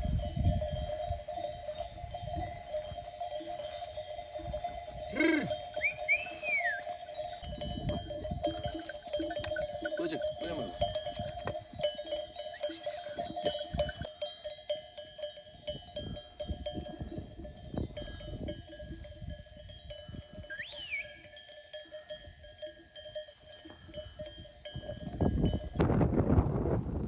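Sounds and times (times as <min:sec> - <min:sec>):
sheep bells jangling: 0:00.0 - 0:26.1.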